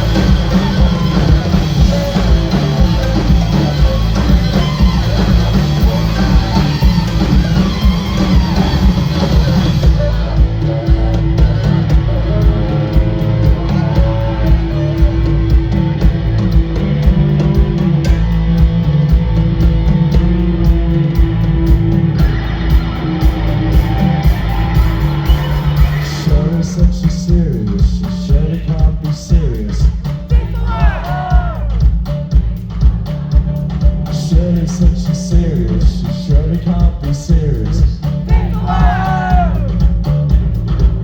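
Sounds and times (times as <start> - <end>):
booming bass and drums: 0.0 - 41.0
electric guitar: 0.0 - 41.0
live rock band playing: 0.0 - 41.0.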